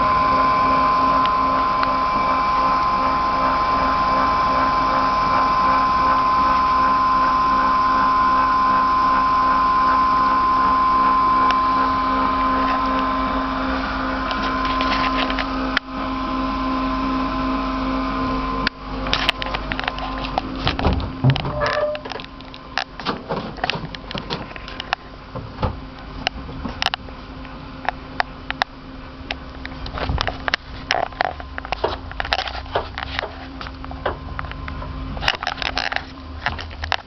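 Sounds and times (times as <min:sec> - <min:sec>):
machine high whine: 0:00.0 - 0:37.0
machine low hum: 0:00.0 - 0:37.0.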